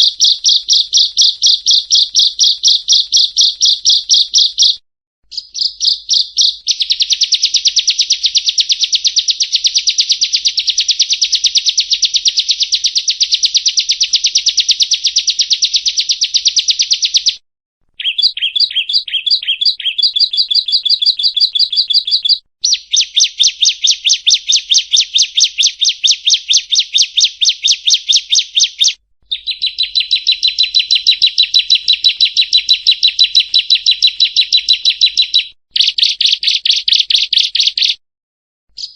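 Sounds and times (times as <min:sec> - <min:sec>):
bird singing rapid trills: 0:00.0 - 0:17.4, 0:18.0 - 0:38.0.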